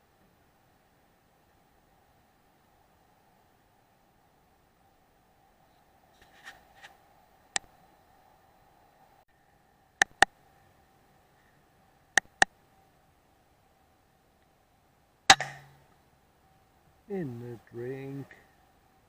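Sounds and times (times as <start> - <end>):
faint steady tone: 0.0 - 19.0.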